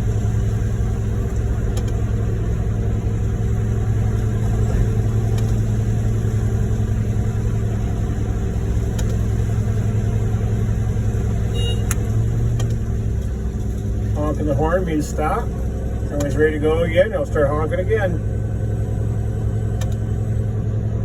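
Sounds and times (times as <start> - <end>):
diesel truck engines running: 0.0 - 21.0.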